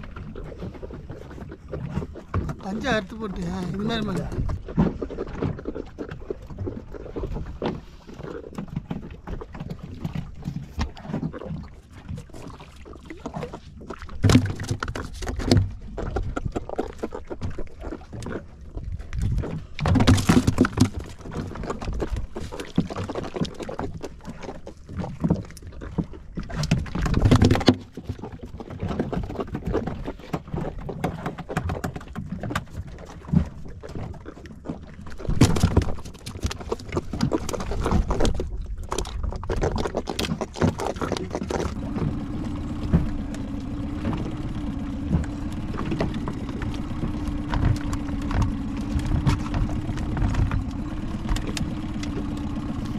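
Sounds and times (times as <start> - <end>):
knocks and clatter on board: 0.0 - 5.7, 8.5 - 12.3, 13.2 - 18.4, 19.1 - 52.2
water against boat hull: 0.0 - 52.9.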